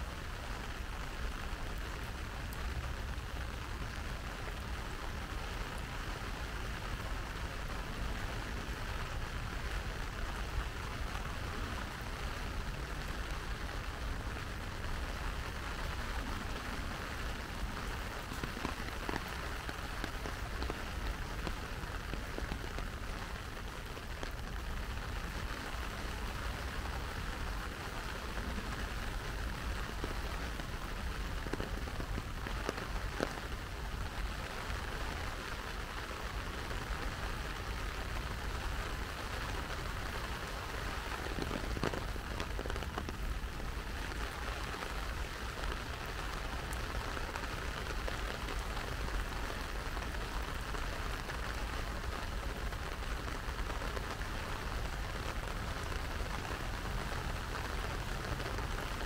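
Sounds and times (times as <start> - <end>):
raindrop ticks: 0.0 - 59.0
steady rain falling: 0.0 - 59.0.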